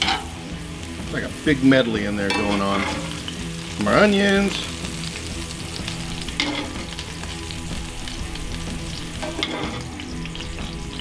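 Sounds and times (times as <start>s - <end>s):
onions sizzling in skillet: 0.0s - 11.0s.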